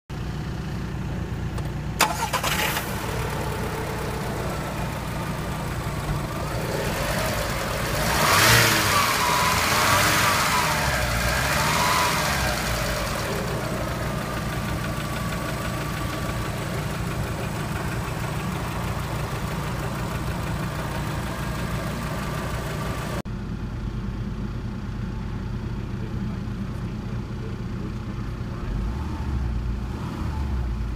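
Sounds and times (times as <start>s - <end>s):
car engine idling: 0.1s - 29.8s.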